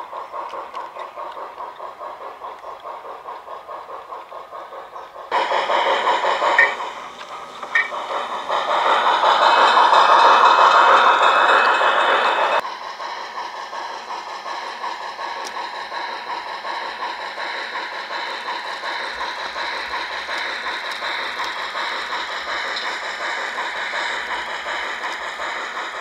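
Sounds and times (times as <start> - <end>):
model train clattering on track: 0.0 - 26.0.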